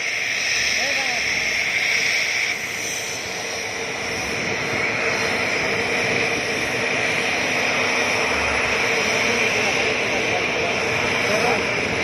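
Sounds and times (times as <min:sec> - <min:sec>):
helicopter turbine engines running: 0:00.0 - 0:12.0.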